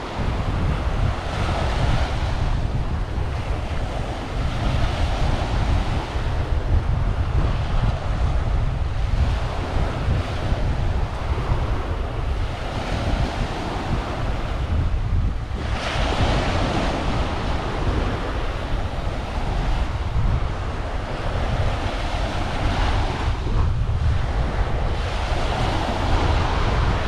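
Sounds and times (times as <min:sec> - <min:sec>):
ocean waves washing up shore: 0:00.0 - 0:27.0
wind buffeting microphone: 0:00.0 - 0:27.0.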